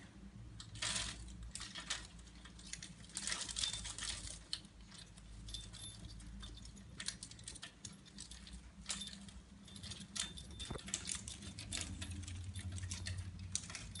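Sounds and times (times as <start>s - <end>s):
parrot rattling toys: 0.6s - 14.0s.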